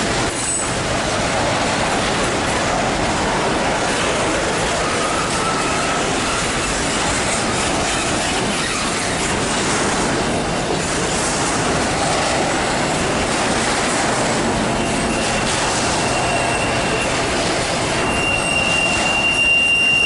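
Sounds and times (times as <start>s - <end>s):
train wheels clattering on rails: 0.0s - 20.0s
wheels squealing: 3.1s - 10.2s, 10.8s - 20.0s.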